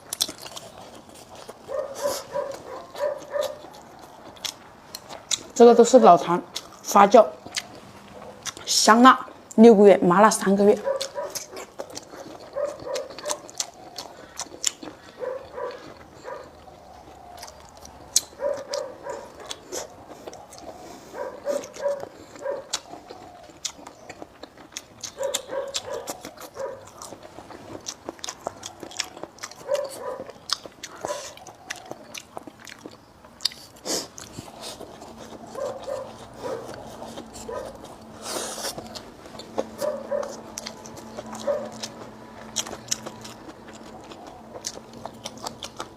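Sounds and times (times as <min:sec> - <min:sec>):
person chewing crunchy food: 0:00.0 - 0:05.6, 0:06.3 - 0:09.6, 0:10.7 - 0:45.9.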